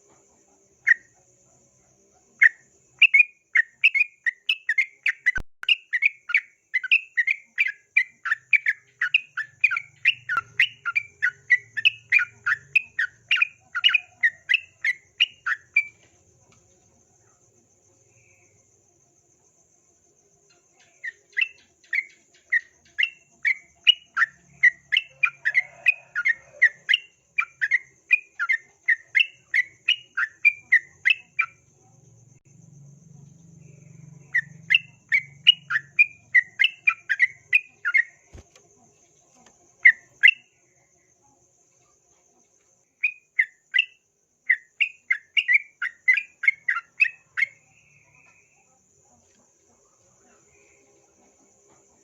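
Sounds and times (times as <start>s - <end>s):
faint insect trill: 0.0s - 52.0s.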